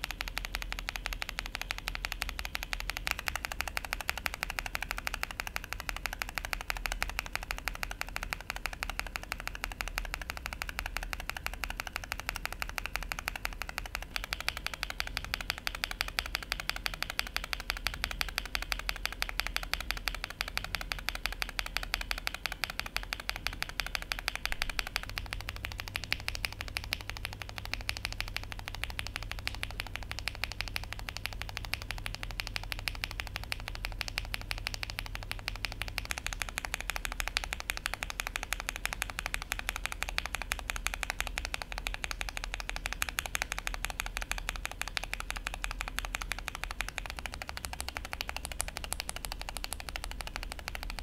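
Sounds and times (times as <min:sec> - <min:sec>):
mechanical keyboard typing: 0:00.0 - 0:51.0.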